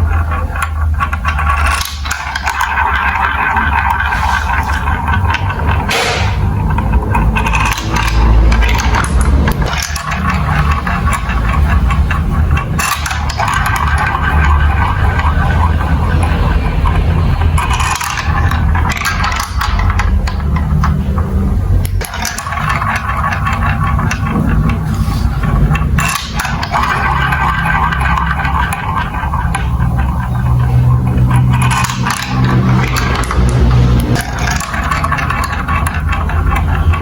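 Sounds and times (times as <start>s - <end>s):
marbles clicking against track: 0.0s - 37.0s
marbles rolling on plastic track: 0.0s - 37.0s.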